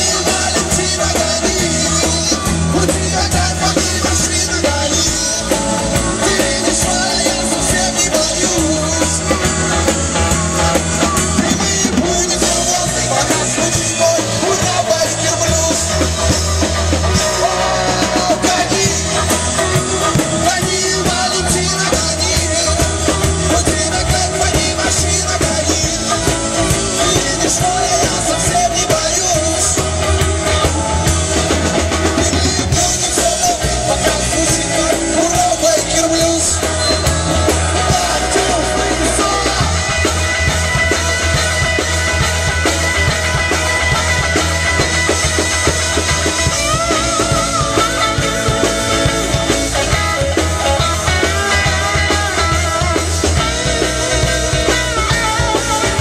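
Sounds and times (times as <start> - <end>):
amplified harmonica: 0.0 - 56.0
bass guitar: 0.0 - 56.0
drum kit: 0.0 - 56.0
electric guitars: 0.0 - 56.0.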